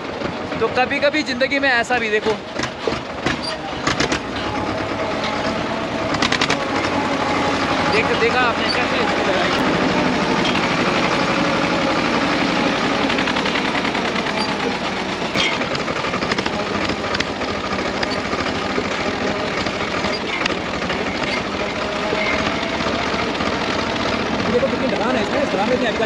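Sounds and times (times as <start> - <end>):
tractor diesel engine clattering: 0.0 - 26.0.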